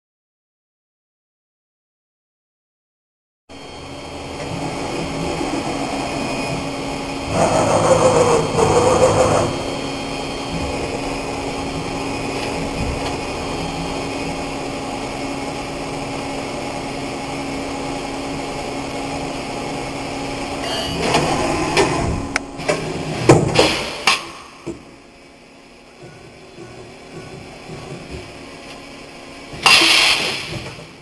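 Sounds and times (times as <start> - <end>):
machining center humming: 3.5 - 31.0.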